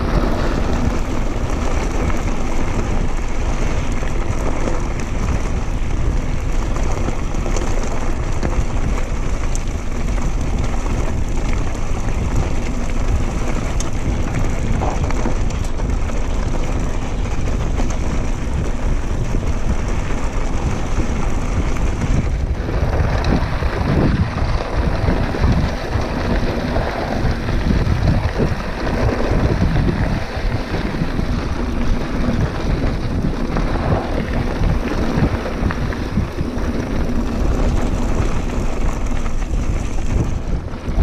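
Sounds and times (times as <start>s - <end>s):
tyres rolling on dirt trail: 0.0s - 41.0s
wind on microphone: 0.0s - 41.0s.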